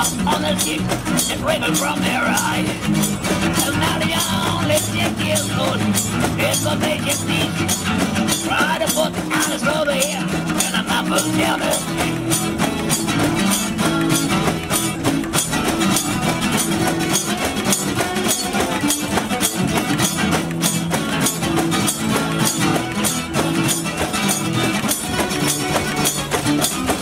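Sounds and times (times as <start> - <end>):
steady percussion beat: 0.0 - 27.0
strummed acoustic guitar: 0.0 - 27.0.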